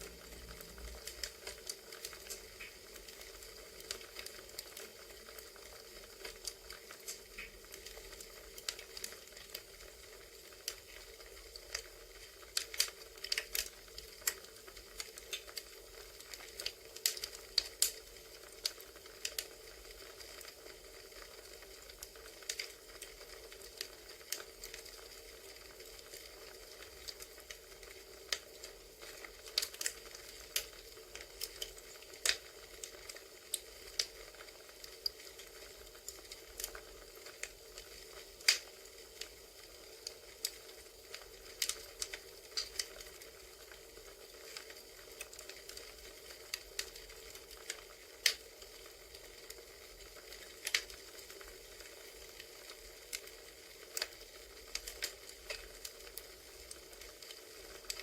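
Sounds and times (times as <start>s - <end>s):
burning wood crackling and popping: 0.0s - 58.0s
soft fire hiss: 0.0s - 58.0s.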